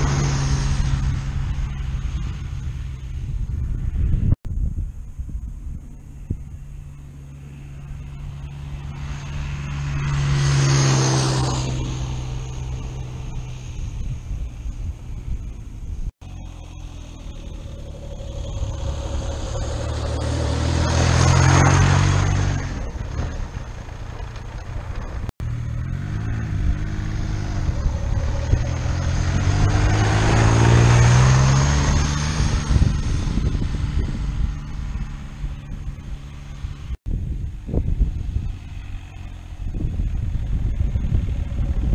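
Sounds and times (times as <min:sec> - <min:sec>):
diesel motorcycle driving past: 0:00.0 - 0:04.3, 0:05.8 - 0:41.9.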